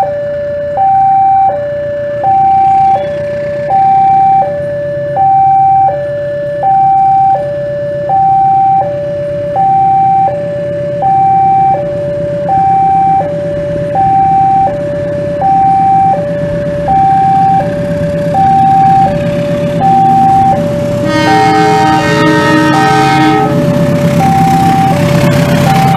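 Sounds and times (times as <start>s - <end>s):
diesel locomotive engine rumbling: 0.0s - 25.9s
level crossing two-tone alarm: 0.0s - 25.9s.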